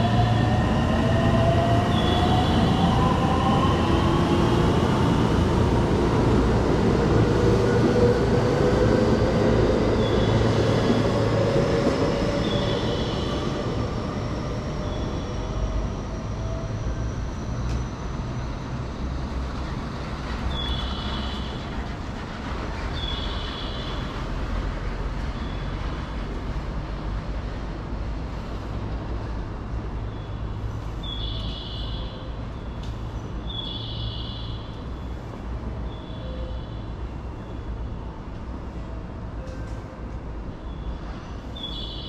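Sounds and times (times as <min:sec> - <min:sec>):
rumble of passing vehicles: 0:00.0 - 0:42.0.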